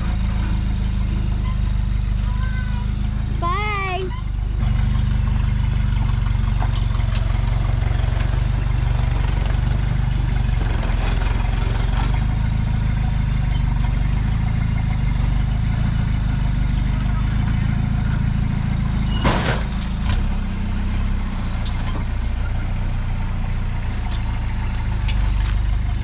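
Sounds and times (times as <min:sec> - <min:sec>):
diesel engine running at low revs: 0:00.0 - 0:26.0.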